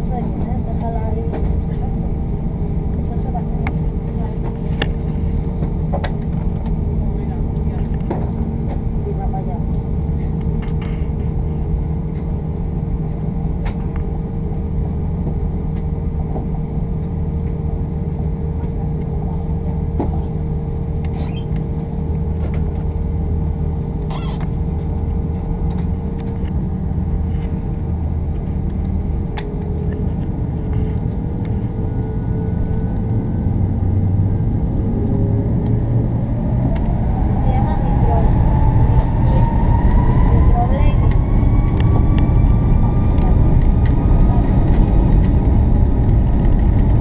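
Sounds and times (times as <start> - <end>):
jet engine rumble and whine: 0.0 - 47.0.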